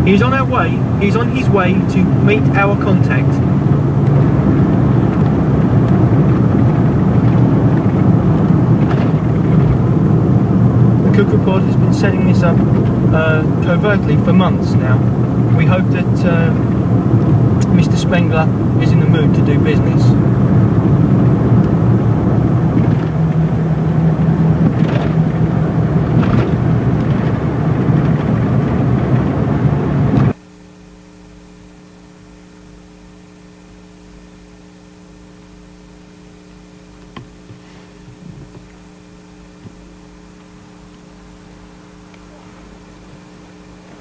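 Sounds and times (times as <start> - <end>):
car engine and road noise: 0.0 - 44.0
low hum: 0.0 - 44.0.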